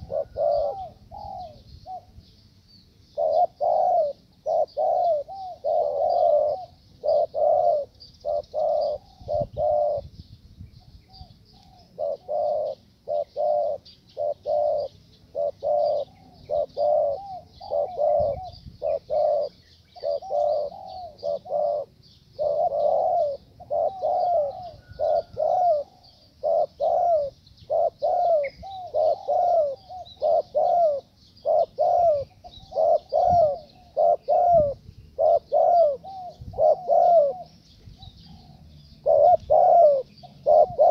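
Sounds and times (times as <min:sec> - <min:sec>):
doves cooing: 0:00.0 - 0:02.2, 0:03.1 - 0:10.2, 0:11.1 - 0:40.9.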